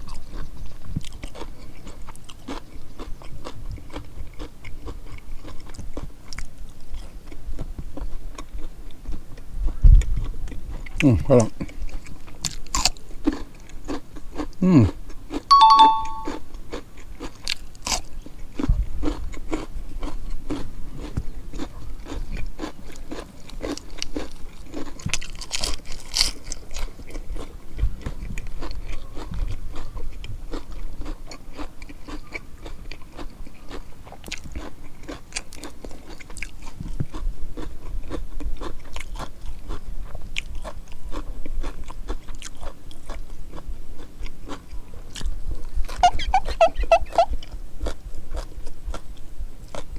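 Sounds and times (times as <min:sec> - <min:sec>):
person chewing and crunching food: 0:00.0 - 0:49.9.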